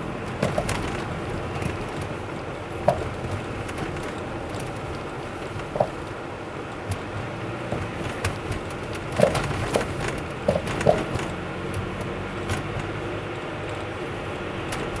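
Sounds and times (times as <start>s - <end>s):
road noise: 0.0s - 15.0s
suspension knocking clunks: 0.0s - 15.0s.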